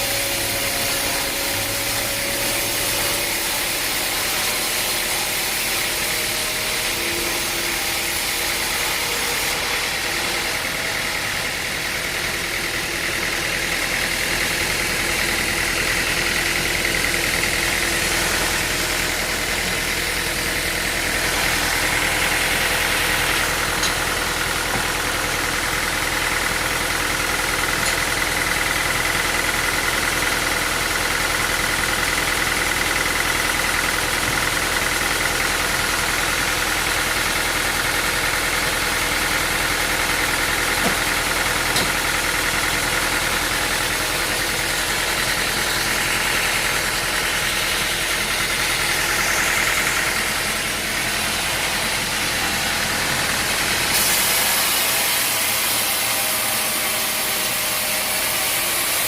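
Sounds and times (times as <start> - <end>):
high machine whine: 0.0 - 58.3
sawmill machinery hum: 0.0 - 59.0.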